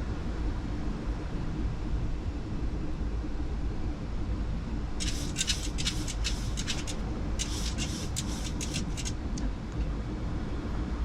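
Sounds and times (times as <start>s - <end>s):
airflow and engine rumble: 0.0s - 11.0s.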